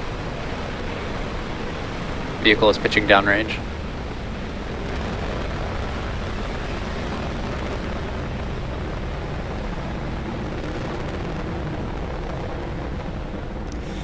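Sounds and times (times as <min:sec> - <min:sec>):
rocket engines roaring: 0:00.0 - 0:14.0.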